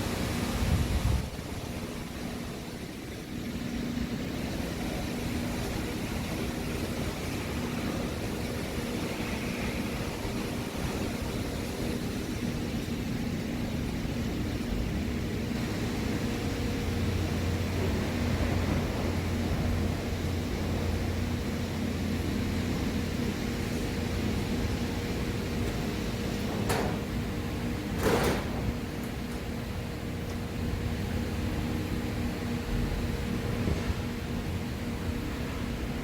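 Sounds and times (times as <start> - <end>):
machine hum with low drone: 0.0 - 36.0.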